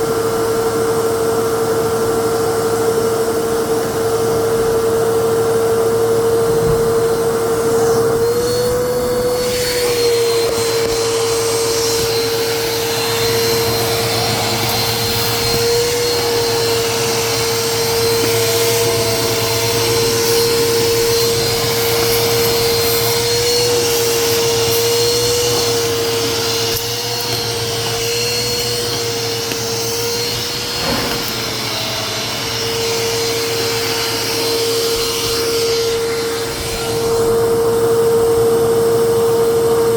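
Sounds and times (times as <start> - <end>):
vacuum cleaner motor whine: 0.0 - 39.9
thin high-pitched whine: 5.7 - 39.9.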